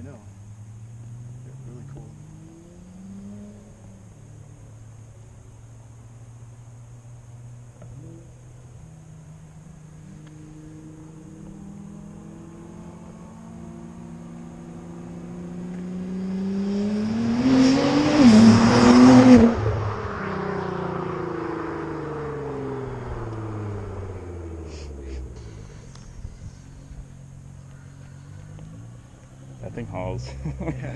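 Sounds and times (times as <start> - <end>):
car accelerating past: 0.0 - 5.3, 6.8 - 30.9.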